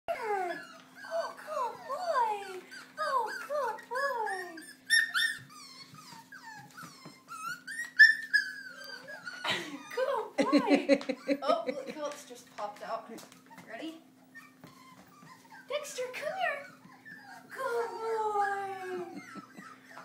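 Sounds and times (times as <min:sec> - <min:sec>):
puppies whining: 0:00.1 - 0:12.1, 0:13.2 - 0:20.0.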